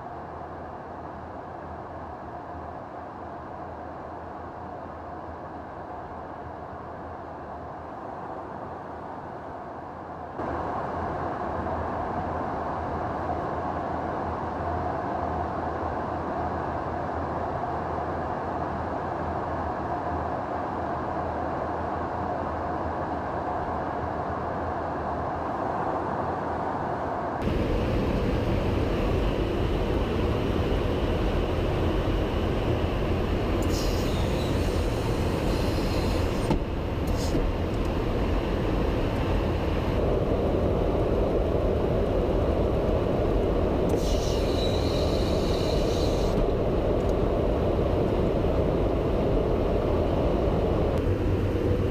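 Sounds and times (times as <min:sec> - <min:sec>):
jet aircraft rumble and hiss: 0:00.0 - 0:51.9.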